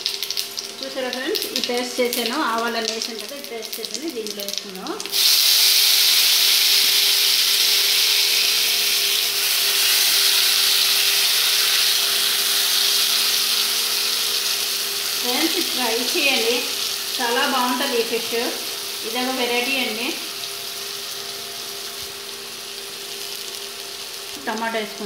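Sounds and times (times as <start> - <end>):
oil sizzling loudly: 0.0 - 25.0
seeds frying in hot oil: 0.0 - 25.0.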